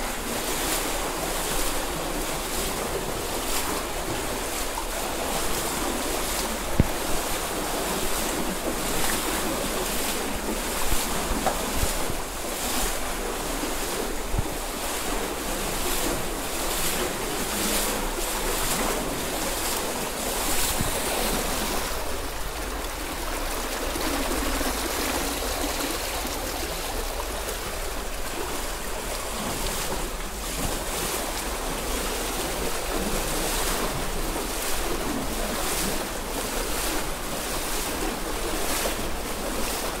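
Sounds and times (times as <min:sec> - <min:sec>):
short water splashes: 0:00.0 - 0:40.0
stream rushing over stones: 0:00.0 - 0:40.0
wind rumbling on microphone: 0:00.0 - 0:40.0.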